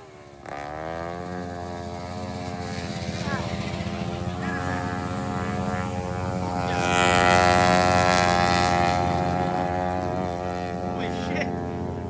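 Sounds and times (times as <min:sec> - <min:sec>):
riding lawn mower engine: 0:00.0 - 0:12.0.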